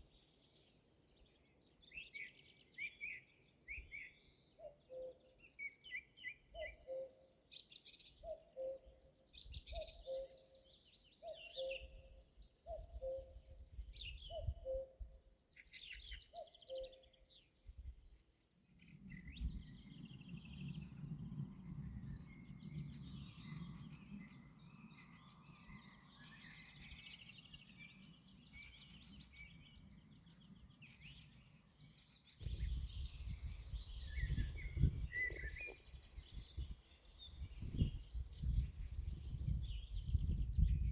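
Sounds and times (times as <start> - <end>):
birds singing and chirping: 0.1 - 17.5, 19.0 - 40.9.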